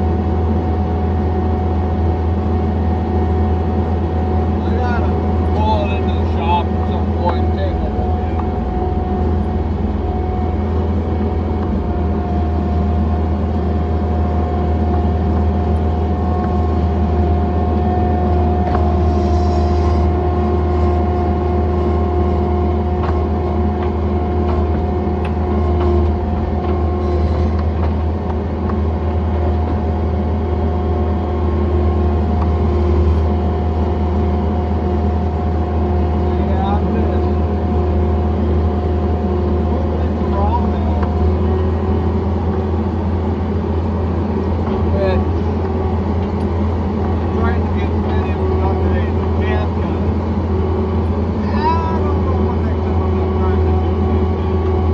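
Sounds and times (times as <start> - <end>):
diesel engine running: 0.0 - 54.9
steady whine: 0.0 - 54.9.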